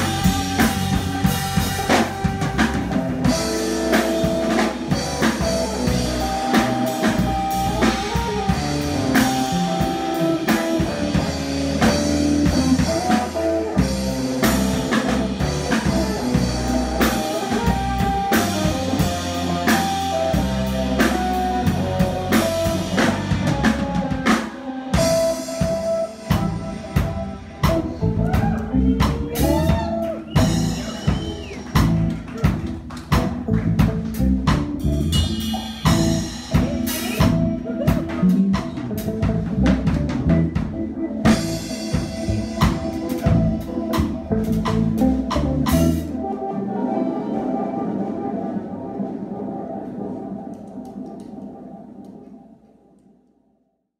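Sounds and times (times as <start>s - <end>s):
electric bass: 0.0s - 46.4s
drum kit: 0.0s - 49.2s
electric guitar: 0.0s - 52.4s.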